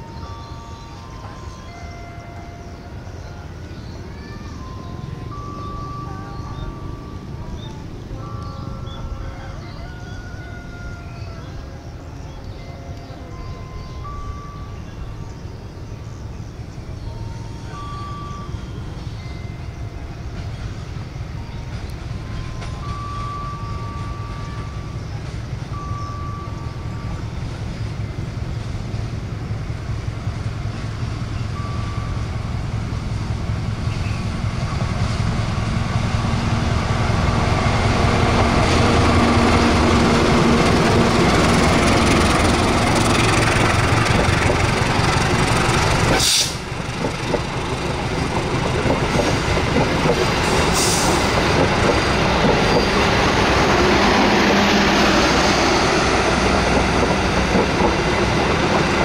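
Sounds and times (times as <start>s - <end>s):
diesel locomotive and rail rumble: 0.0s - 59.0s.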